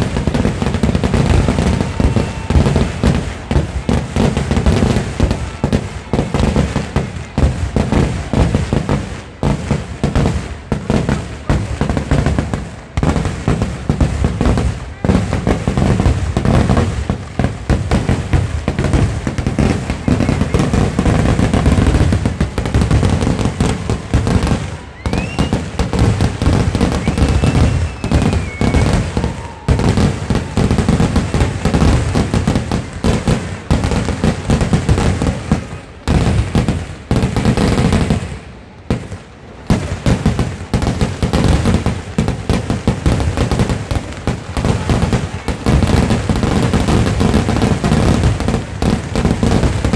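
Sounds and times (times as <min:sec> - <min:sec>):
fireworks bangs and cracks: 0:00.0 - 0:49.9.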